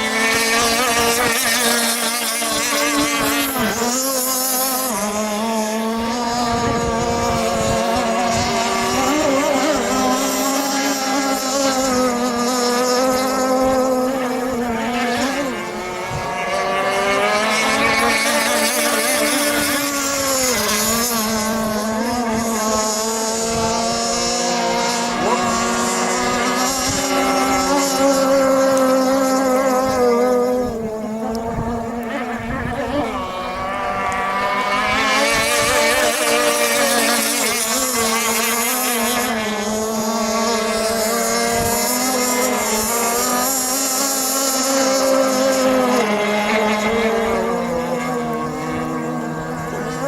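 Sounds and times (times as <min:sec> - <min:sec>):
model boat engine buzzing: 0:00.0 - 0:50.0.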